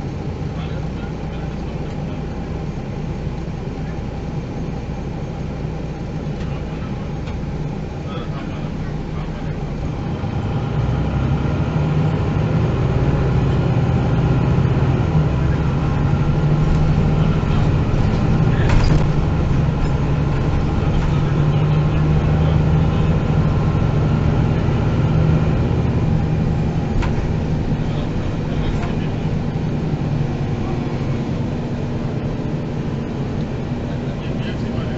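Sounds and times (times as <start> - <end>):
bus engine running: 0.0 - 34.9.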